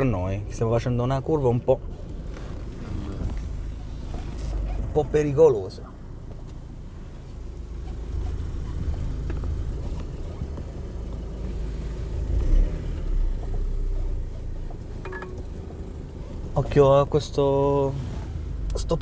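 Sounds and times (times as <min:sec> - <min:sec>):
road noise: 0:00.0 - 0:19.0
truck engine rumbling: 0:00.0 - 0:19.0.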